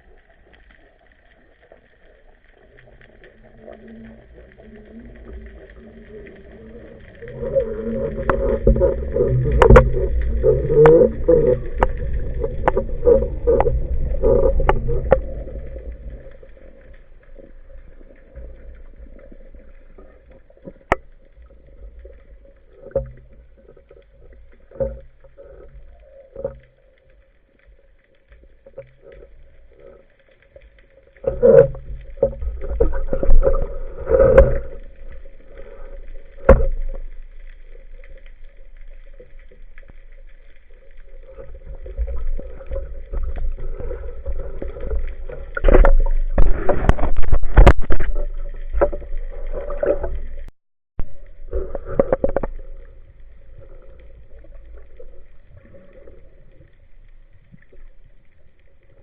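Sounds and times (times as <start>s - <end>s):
low rumbling and splashing: 0.0s - 59.0s.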